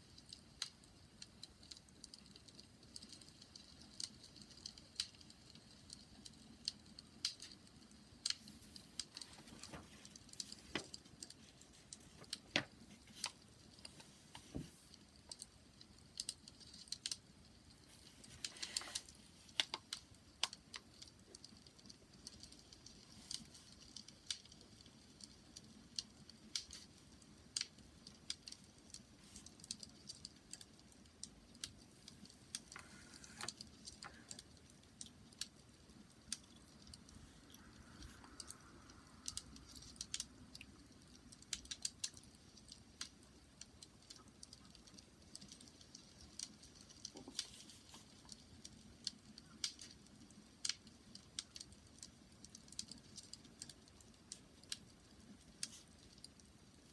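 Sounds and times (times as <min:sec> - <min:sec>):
faint steady hiss: 0:00.0 - 0:56.9
wood fire crackling: 0:00.0 - 0:56.9.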